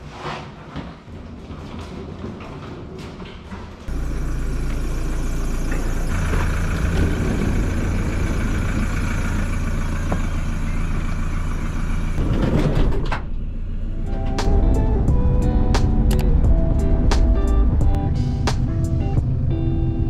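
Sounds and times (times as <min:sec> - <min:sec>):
van engine humming: 0:03.9 - 0:20.0.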